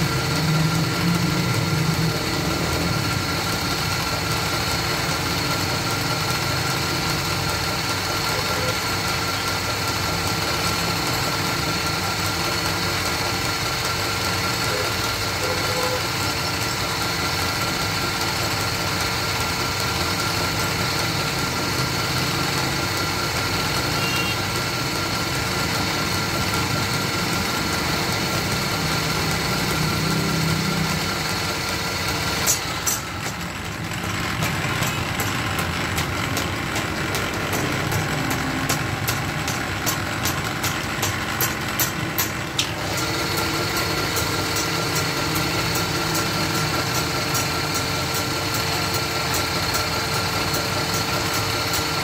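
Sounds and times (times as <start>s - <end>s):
wood lathe motor humming: 0.0s - 52.0s.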